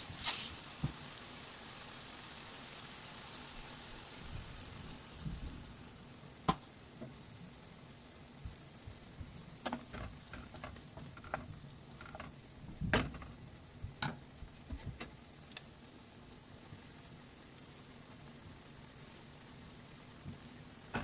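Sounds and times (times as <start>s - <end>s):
low sizzle: 0.0s - 21.0s.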